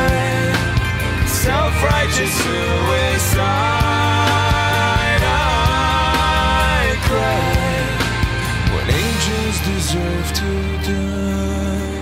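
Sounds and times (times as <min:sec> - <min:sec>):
rock song: 0:00.0 - 0:12.0.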